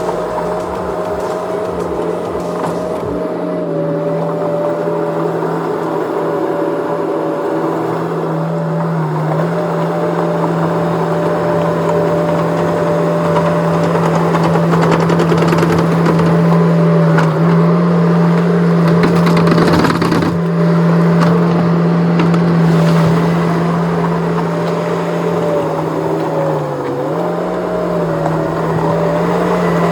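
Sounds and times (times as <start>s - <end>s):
gravel crackling and scraping: 0.0s - 29.9s
skid steer engine running: 0.0s - 29.9s.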